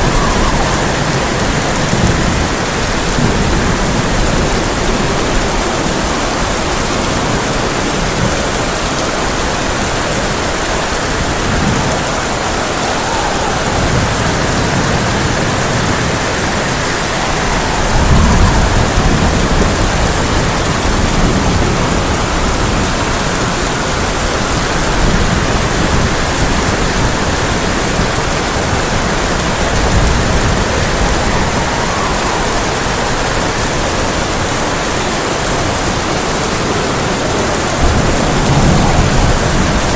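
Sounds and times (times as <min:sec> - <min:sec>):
heavy rain on a tin roof: 0:00.0 - 0:39.9
low thunder rumbling: 0:00.0 - 0:39.9.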